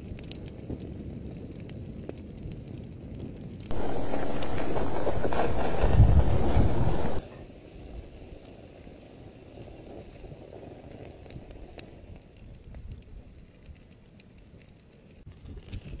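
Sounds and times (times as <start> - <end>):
wind rumble on microphone: 0.0 - 14.6, 15.2 - 16.0
lava crust crackling: 0.0 - 16.0.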